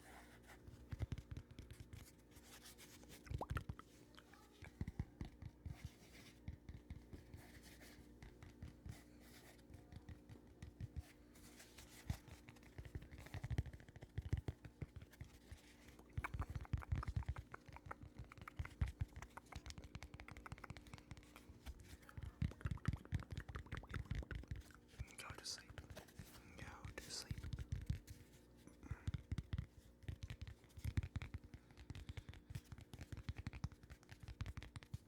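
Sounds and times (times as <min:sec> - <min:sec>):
fingertip tapping and scratching: 0:00.5 - 0:35.0.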